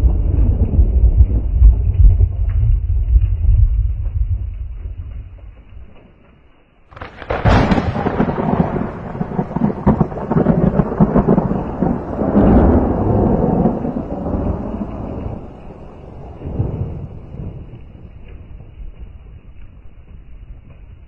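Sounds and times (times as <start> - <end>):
thunder crash and rumble: 0.0 - 6.0, 6.9 - 21.0
heavy rain: 0.0 - 21.0.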